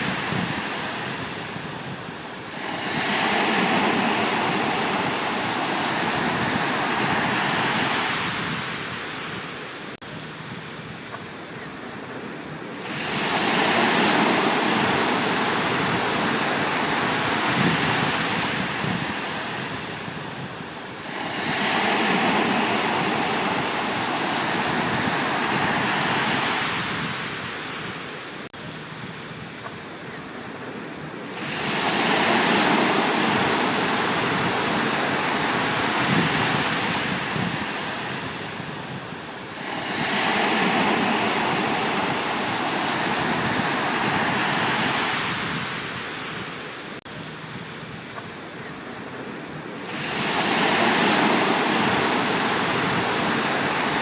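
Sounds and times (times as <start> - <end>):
ocean waves rushing: 0.0 - 54.0
wind: 0.0 - 54.0.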